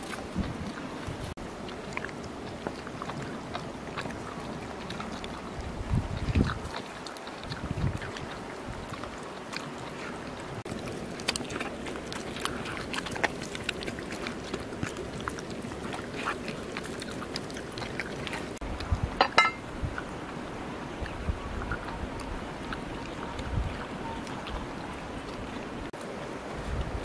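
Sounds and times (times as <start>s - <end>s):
dog chewing and lapping: 0.0s - 20.4s, 21.0s - 25.8s.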